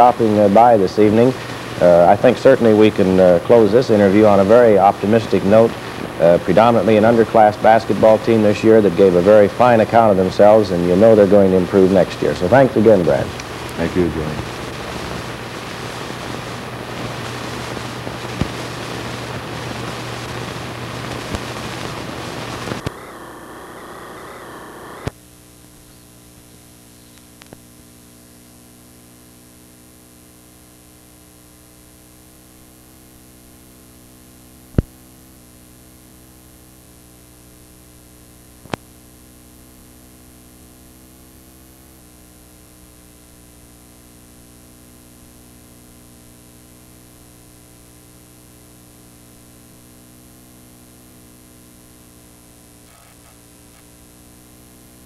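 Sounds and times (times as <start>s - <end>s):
electrical mains hum: 0.0s - 55.0s
static hiss: 0.0s - 55.0s.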